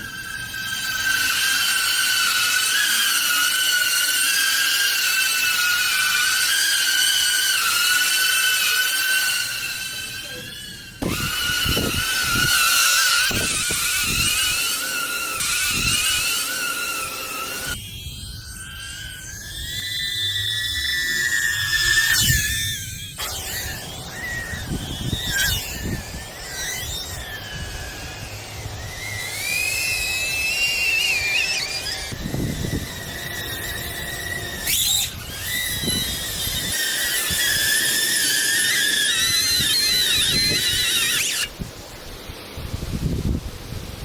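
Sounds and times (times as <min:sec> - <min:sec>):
drone propellers whining: 0:00.0 - 0:43.8.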